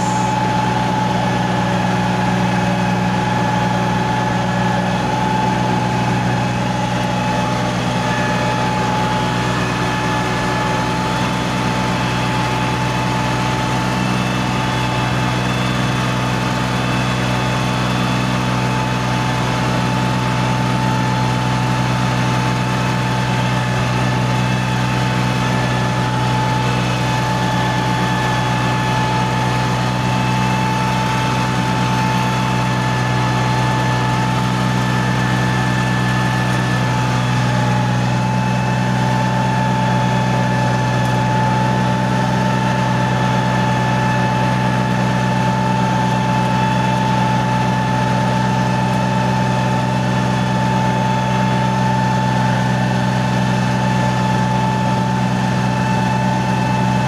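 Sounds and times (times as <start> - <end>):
steady whine: 0.0 - 49.6
tractor diesel engine running: 0.0 - 57.0.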